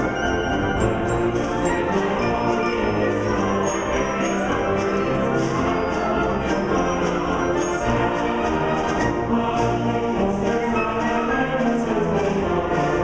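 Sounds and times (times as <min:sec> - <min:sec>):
concert wind band playing: 0:00.0 - 0:13.0.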